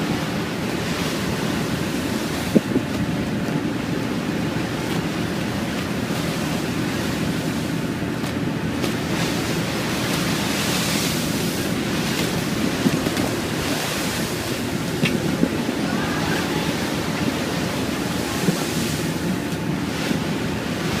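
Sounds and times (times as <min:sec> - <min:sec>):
rough sea rushing past hull: 0:00.0 - 0:21.0
ship engine droning: 0:00.0 - 0:21.0
wind buffeting microphone: 0:00.0 - 0:21.0.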